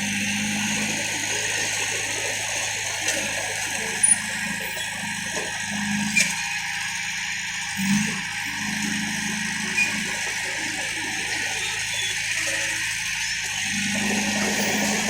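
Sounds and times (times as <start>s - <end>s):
diesel machinery running: 0.0s - 15.0s.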